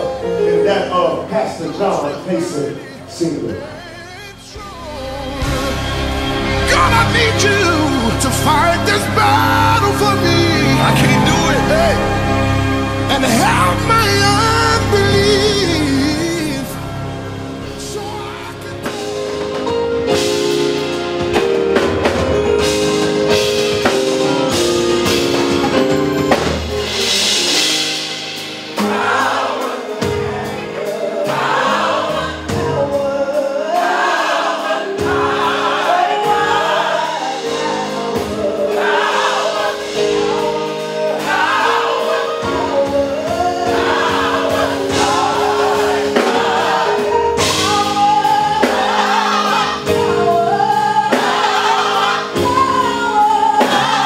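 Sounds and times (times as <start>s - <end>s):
gospel choir singing: 0.0s - 54.0s
held chords: 0.0s - 54.0s
drums: 4.5s - 54.0s.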